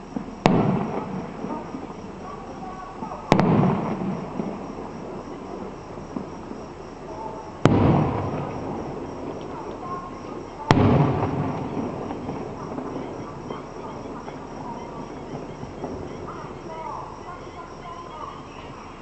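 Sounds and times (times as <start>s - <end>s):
rolling rumble: 0.0s - 18.3s
fireworks bangs: 0.0s - 18.8s.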